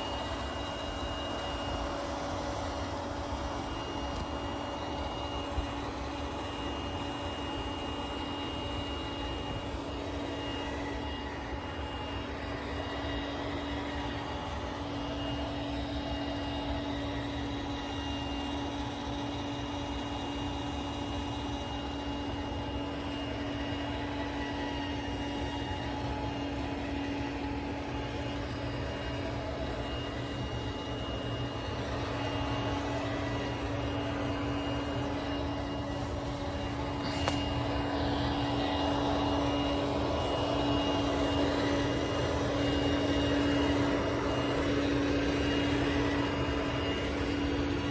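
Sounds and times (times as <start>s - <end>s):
robot vacuum running on carpet: 0.0s - 47.9s.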